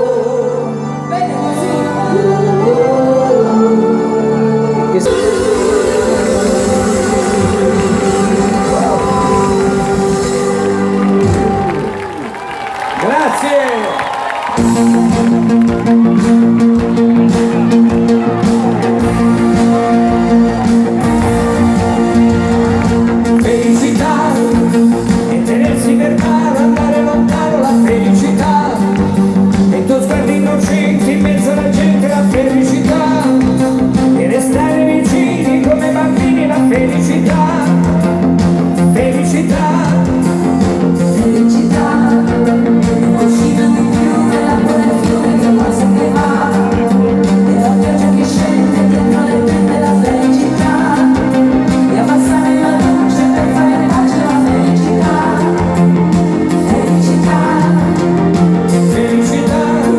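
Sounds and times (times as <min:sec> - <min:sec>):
person singing: 0:00.0 - 0:12.3, 0:14.6 - 0:59.9
live pop band playing: 0:00.0 - 0:59.9.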